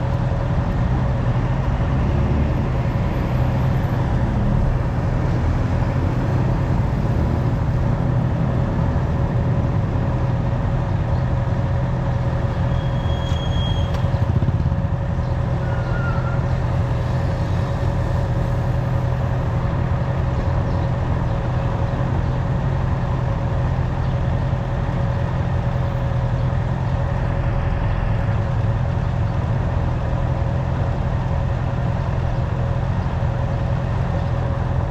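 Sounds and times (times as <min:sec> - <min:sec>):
motorcycle engine running steadily: 0:04.2 - 0:27.3, 0:28.3 - 0:34.9.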